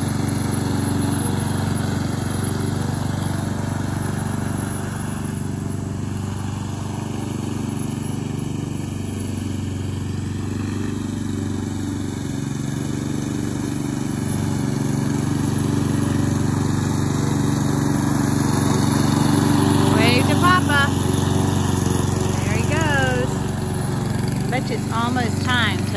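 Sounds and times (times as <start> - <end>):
lawn mower engine running: 0.0 - 25.9.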